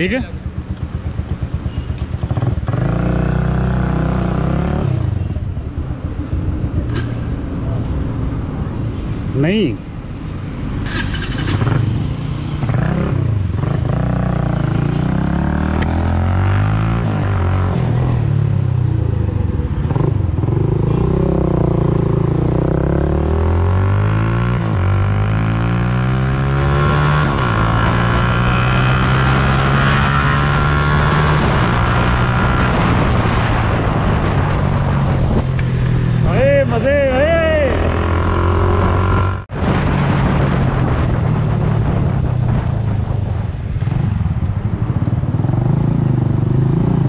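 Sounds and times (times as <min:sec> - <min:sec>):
motorcycle engine accelerating: 0:00.4 - 0:08.2, 0:10.4 - 0:47.0.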